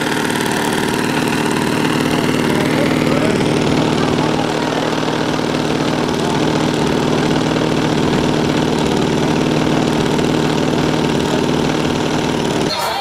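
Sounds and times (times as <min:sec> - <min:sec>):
small engine idling: 0:00.0 - 0:12.8.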